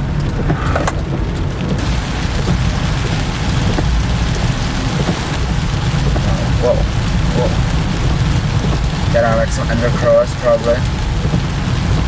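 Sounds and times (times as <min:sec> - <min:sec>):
constant low rumble: 0:00.0 - 0:12.0
steady rain falling: 0:00.0 - 0:12.0.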